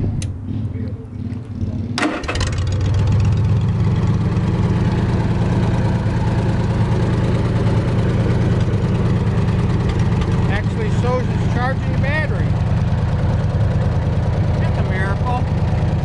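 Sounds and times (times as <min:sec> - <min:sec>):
engine cranked by starter and running: 0:00.0 - 0:16.0.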